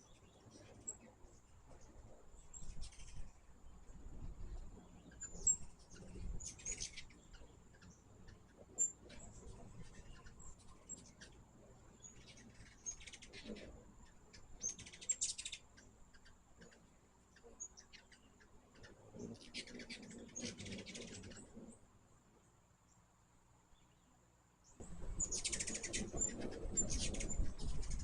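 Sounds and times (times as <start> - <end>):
hummingbirds chipping and chattering: 0.0 - 28.0.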